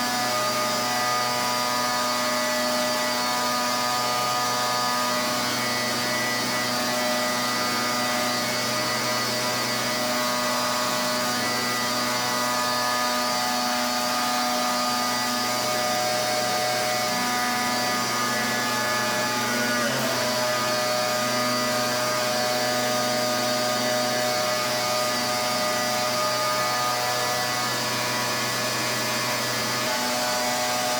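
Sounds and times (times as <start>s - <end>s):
pressure washer motor hum: 0.0s - 30.9s.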